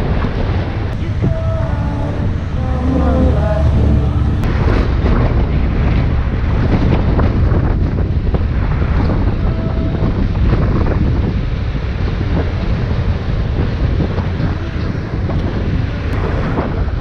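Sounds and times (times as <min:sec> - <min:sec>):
steady low rumble: 0:00.0 - 0:17.0
wind buffeting the microphone: 0:00.0 - 0:17.0.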